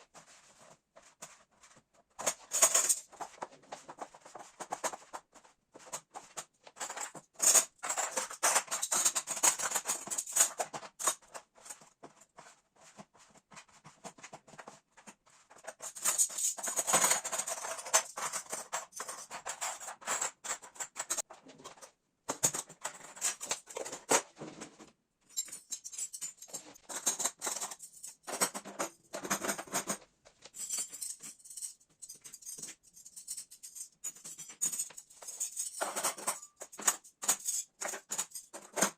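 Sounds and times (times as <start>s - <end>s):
household items rattling and clicking: 0.0s - 38.9s.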